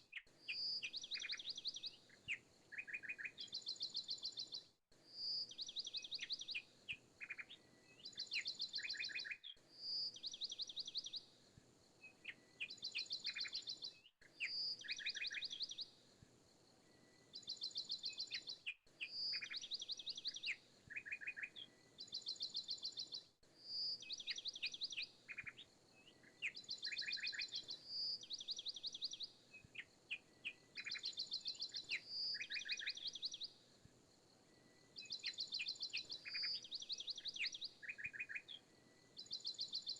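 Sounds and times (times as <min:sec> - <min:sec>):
small birds chirping and trilling: 0:00.0 - 0:16.0, 0:16.8 - 0:33.6, 0:34.4 - 0:39.9.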